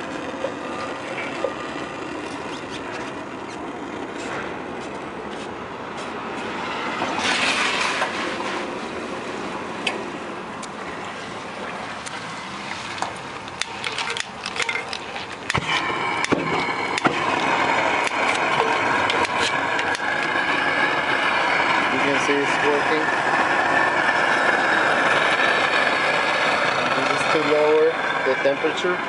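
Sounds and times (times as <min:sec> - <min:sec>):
gas burners rushing: 0:00.0 - 0:29.0.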